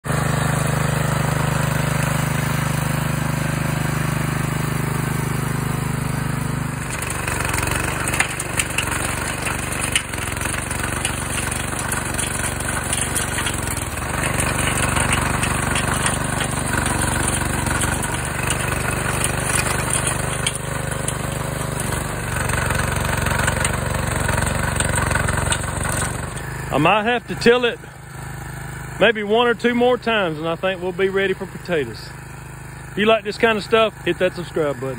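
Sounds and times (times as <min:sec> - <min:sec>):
small gasoline engine running: 0:00.0 - 0:34.9
tines churning soil: 0:00.1 - 0:34.9.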